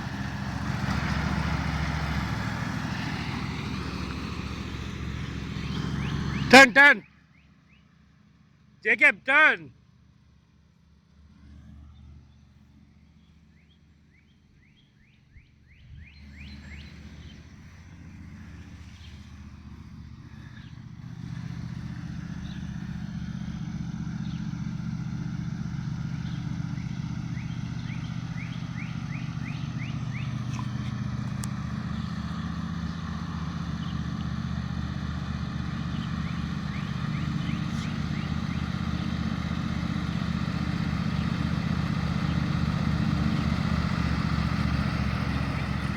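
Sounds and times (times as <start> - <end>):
riding lawnmower engine running: 0.0 - 7.0, 11.0 - 45.9.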